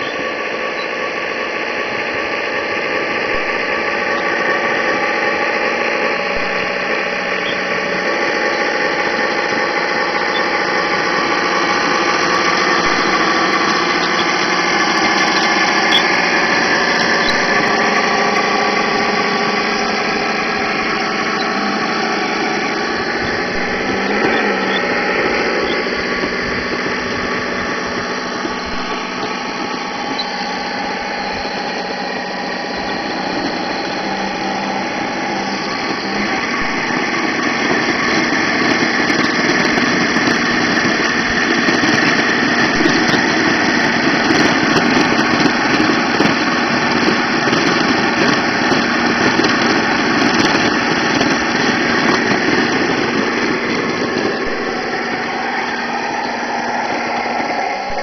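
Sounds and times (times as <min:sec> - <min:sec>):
toy tank running noise: 0:00.0 - 0:58.0.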